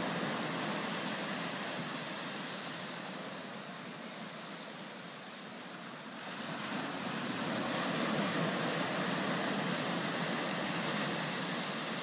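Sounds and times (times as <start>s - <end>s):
waves breaking on a beach: 0.0s - 12.0s.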